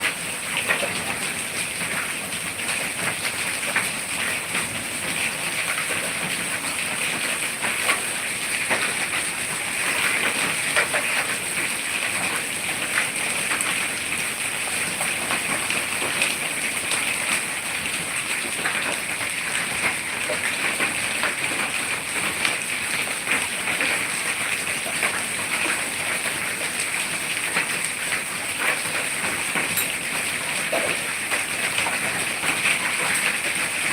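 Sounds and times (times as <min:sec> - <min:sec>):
hailstones ticking on surfaces: 0:00.0 - 0:33.9
heavy rain: 0:00.0 - 0:33.9.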